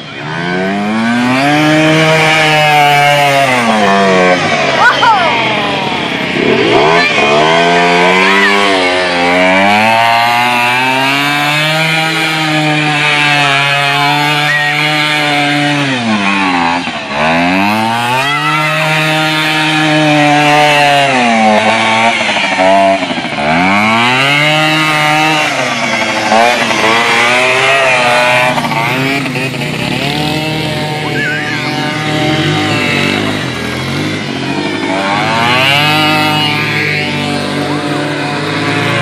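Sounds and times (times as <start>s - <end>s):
small atv engine revving: 0.0s - 39.0s.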